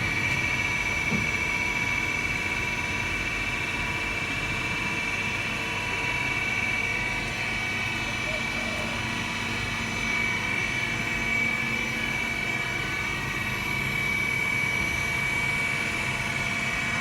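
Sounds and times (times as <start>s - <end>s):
milling machine whine and hum: 0.0s - 17.0s.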